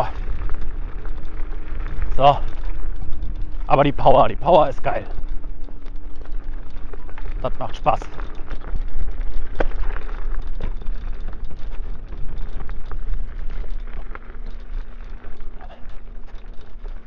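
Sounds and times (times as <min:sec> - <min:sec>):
faint steady hum: 0:00.0 - 0:17.0
scooter clicks and knocks: 0:00.0 - 0:17.0
wind rumble on microphone: 0:00.0 - 0:17.0.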